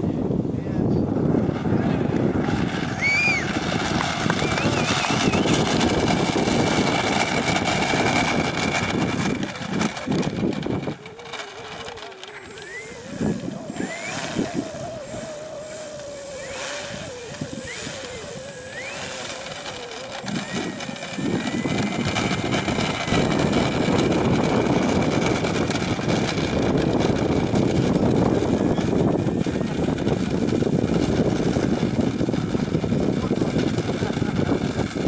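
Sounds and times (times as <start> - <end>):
model plane motor whining: 0.8 - 35.0
loud rushing noise: 1.2 - 11.0, 12.3 - 33.4.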